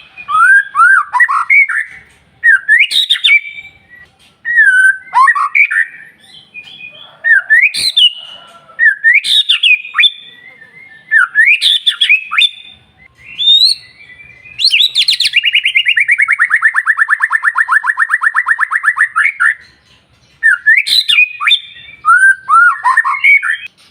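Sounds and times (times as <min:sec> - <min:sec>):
bird singing whistled phrases: 0:00.0 - 0:08.2, 0:08.8 - 0:19.8, 0:20.4 - 0:23.7.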